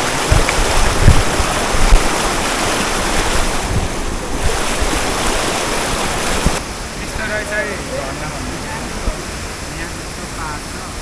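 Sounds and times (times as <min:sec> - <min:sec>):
waterfall rushing: 0:00.0 - 0:11.0
wind buffeting microphone: 0:00.0 - 0:11.0.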